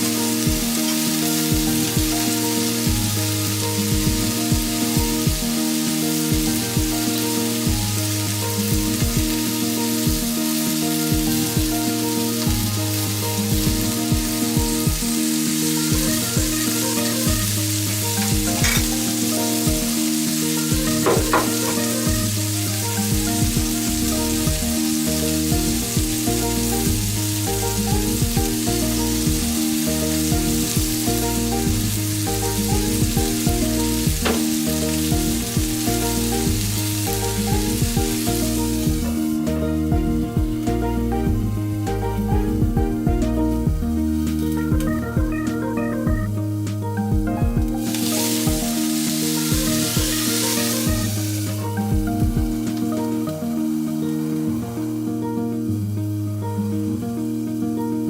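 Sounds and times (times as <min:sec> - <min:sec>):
food sizzling in a skillet: 0:00.0 - 0:58.0.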